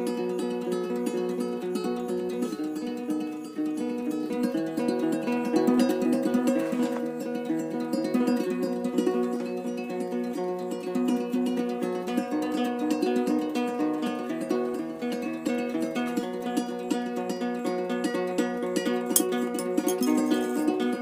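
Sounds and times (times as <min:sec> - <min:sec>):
acoustic guitar and ukulele playing: 0:00.0 - 0:21.0.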